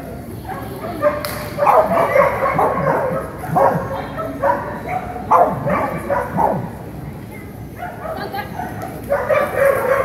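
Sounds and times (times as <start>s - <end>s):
dog barking: 0.5s - 6.8s, 7.8s - 10.0s.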